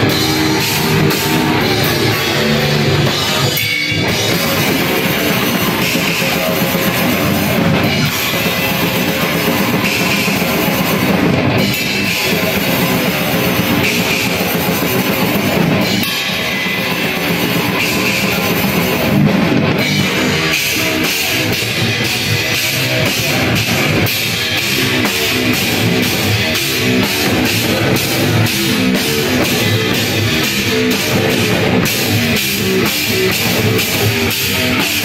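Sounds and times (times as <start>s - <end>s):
drum kit pounding beat: 0.0s - 35.0s
electric guitar: 0.0s - 35.0s.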